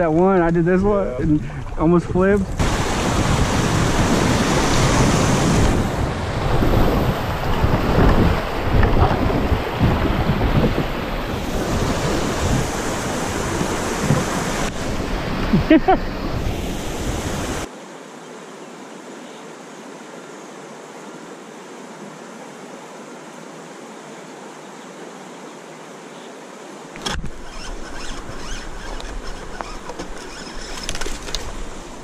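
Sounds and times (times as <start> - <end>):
rushing river water: 0.0 - 32.0.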